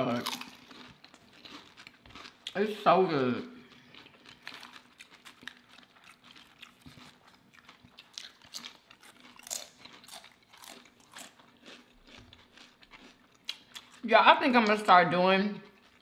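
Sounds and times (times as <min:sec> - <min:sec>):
people chewing: 0:00.0 - 0:14.9, 0:15.6 - 0:16.0
potato chips crunching: 0:00.0 - 0:16.0.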